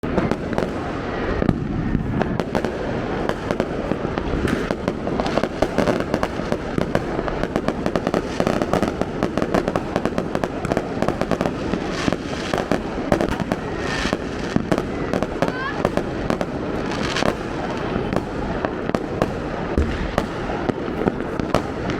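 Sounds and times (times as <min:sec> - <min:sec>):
firecrackers popping: 0:00.0 - 0:21.9.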